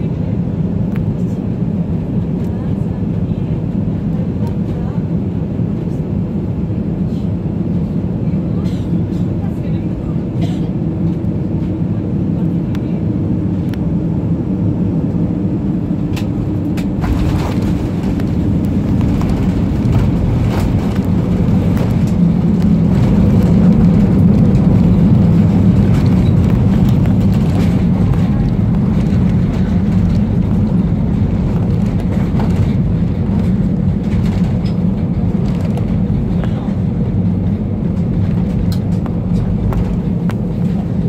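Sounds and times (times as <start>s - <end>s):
aircraft engine rumble in cabin: 0.0s - 41.0s.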